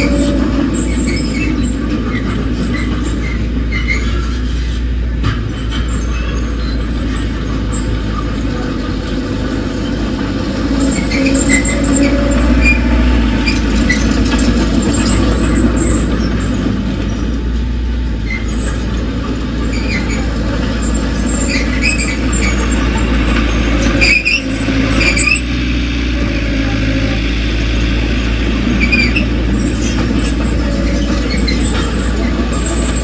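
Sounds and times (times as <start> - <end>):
bulldozer diesel engine running: 0.0 - 33.0
crawler tracks squealing: 0.0 - 33.0.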